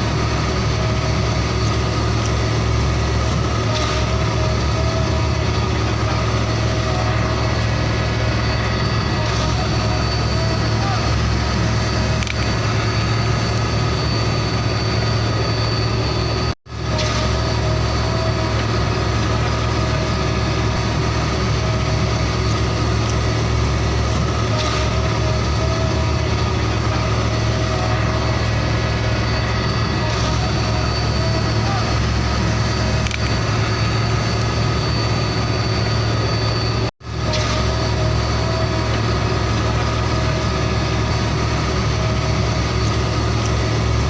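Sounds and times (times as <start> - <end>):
truck engine idling: 0.0 - 44.0.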